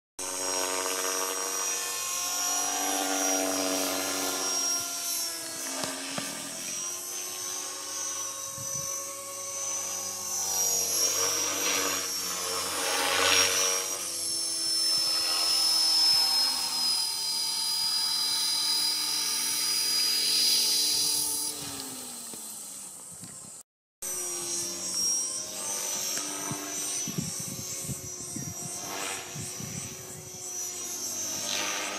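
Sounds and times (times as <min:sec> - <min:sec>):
model helicopter rotor whine: 0:00.2 - 0:31.9.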